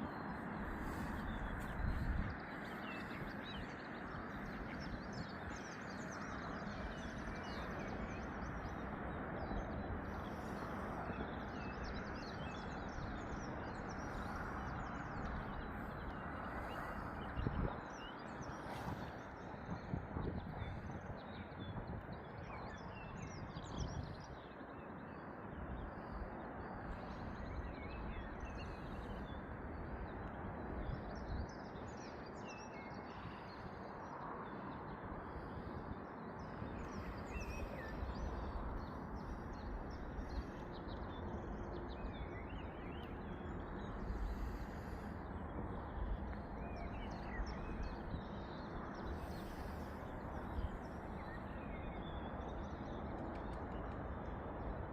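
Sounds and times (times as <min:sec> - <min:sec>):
steady rushing background noise: 0:00.0 - 0:54.9.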